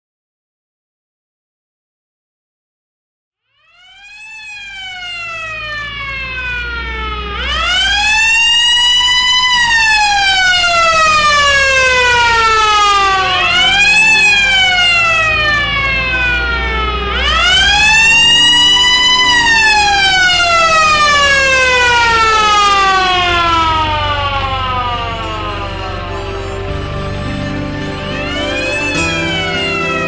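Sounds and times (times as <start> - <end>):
emergency vehicle siren wailing: 3.6 - 30.0.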